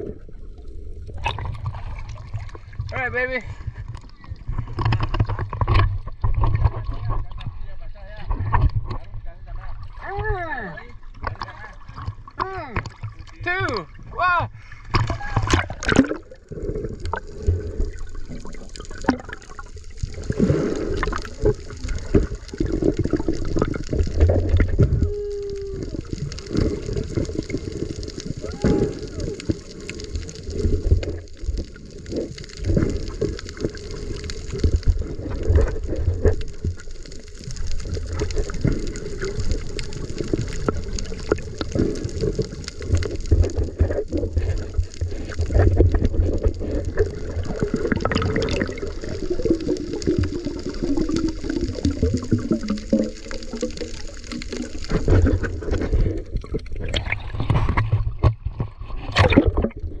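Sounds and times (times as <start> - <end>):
water sloshing and gurgling: 0.0 - 60.0.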